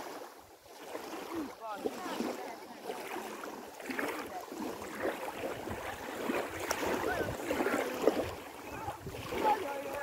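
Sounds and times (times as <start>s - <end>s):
small waves lapping: 0.0s - 10.0s.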